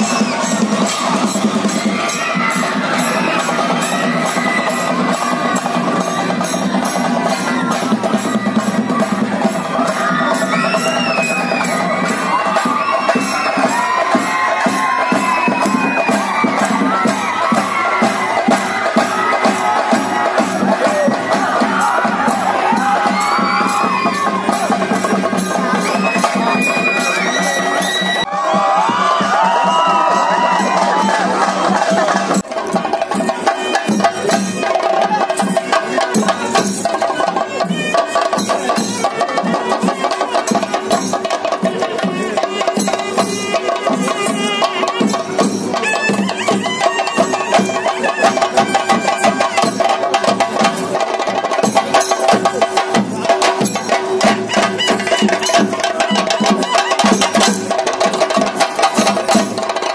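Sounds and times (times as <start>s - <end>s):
drums beaten in fast strokes: 0.0s - 59.9s.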